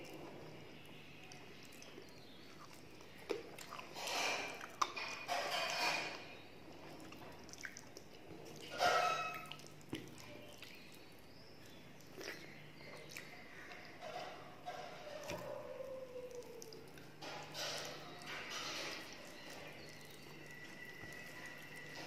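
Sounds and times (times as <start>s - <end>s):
fingers squishing soft food: 0.0s - 22.0s
wet chewing: 0.0s - 22.0s.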